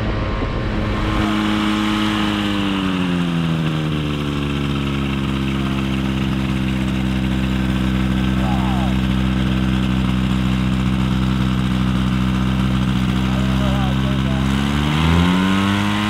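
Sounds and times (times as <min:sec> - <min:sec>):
ultralight airplane engine idling: 0:00.0 - 0:16.0.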